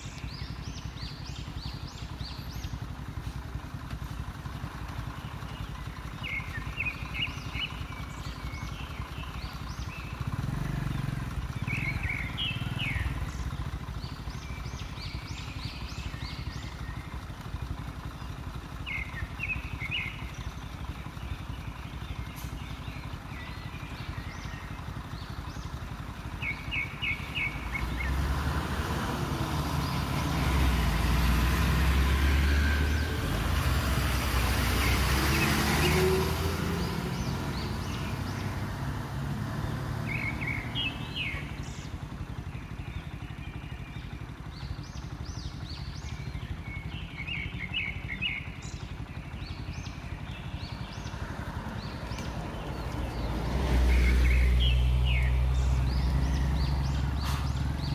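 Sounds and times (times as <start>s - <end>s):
bus and lorry engines rumbling: 0.0s - 57.9s
small birds chirping: 0.0s - 57.9s.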